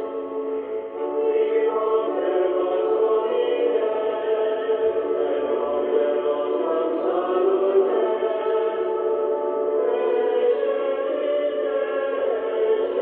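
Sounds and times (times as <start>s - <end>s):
choir singing over radio: 0.0s - 13.0s.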